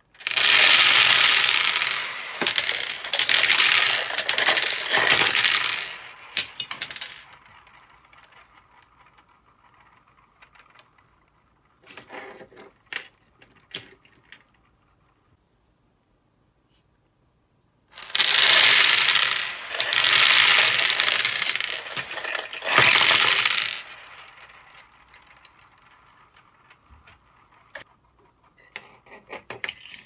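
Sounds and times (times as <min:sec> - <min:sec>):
small balls clattering on table: 0:00.0 - 0:15.3, 0:17.9 - 0:30.0
balls rolling and bouncing: 0:00.0 - 0:15.4, 0:17.9 - 0:30.0.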